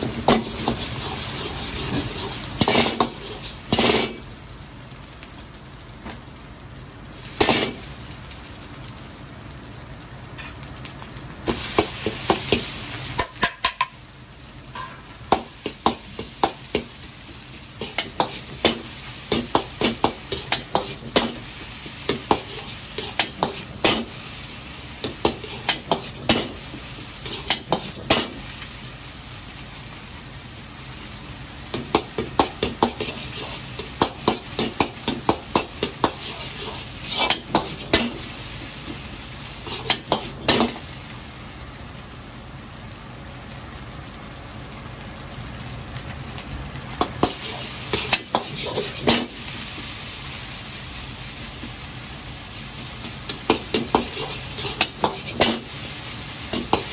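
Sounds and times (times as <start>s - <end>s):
food sizzling in hot oil: 0.0s - 56.9s.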